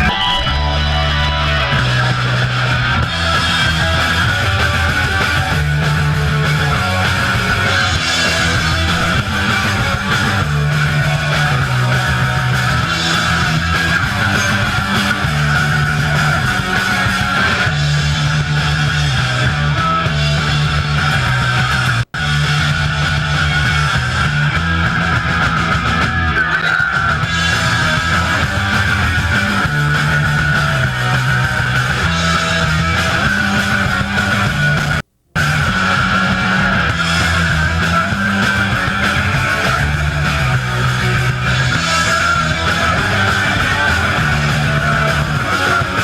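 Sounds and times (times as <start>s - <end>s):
bass line: 0.0s - 46.0s
distorted electric guitar: 0.0s - 46.0s
drums: 0.0s - 46.0s.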